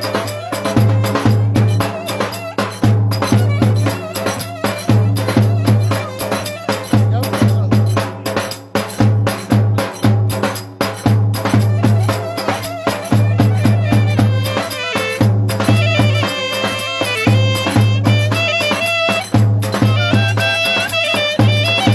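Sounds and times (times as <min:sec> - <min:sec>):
deep drum beat: 0:00.0 - 0:21.9
piping melody: 0:00.0 - 0:21.9
sharp clacking strokes: 0:00.0 - 0:21.9.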